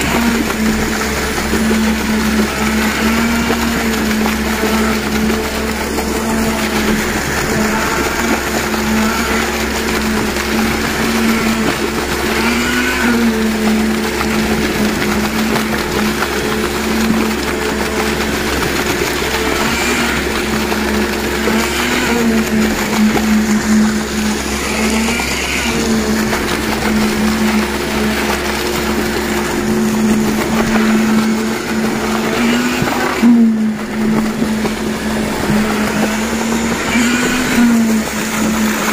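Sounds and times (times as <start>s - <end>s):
concrete pump drone: 0.0s - 38.9s.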